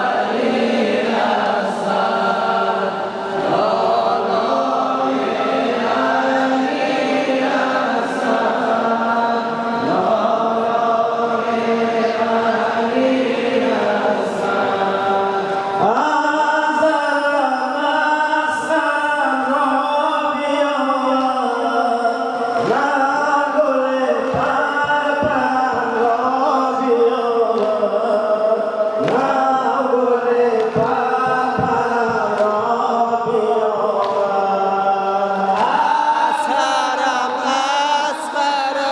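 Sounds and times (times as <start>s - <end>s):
men chanting in unison: 0.0s - 38.9s.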